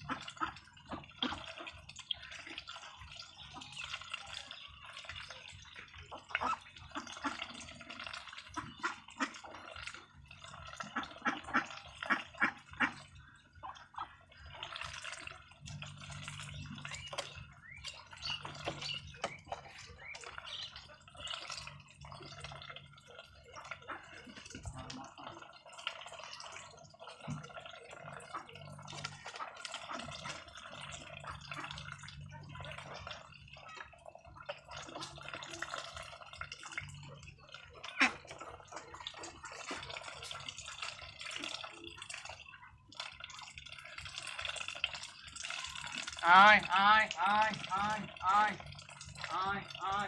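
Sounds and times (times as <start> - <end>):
ducks dabbling and feeding: 0.0 - 50.0.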